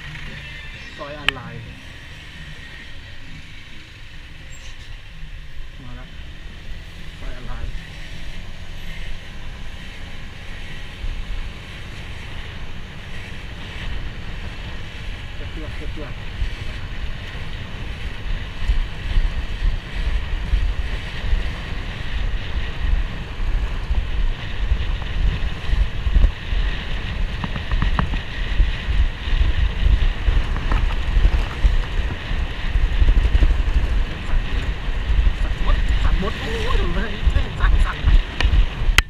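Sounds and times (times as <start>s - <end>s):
engine and road noise hiss: 0.0s - 39.0s
wind buffeting microphone: 6.3s - 39.0s.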